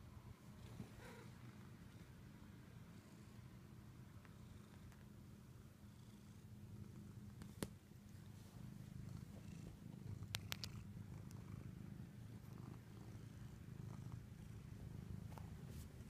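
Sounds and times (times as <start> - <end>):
cat purring: 0.6 - 3.6, 4.2 - 16.0.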